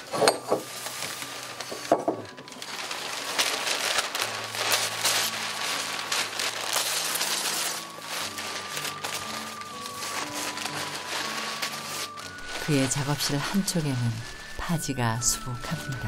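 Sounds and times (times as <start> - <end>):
paper rustling and crumpling: 0.0 - 16.0
soft background music: 0.0 - 16.0.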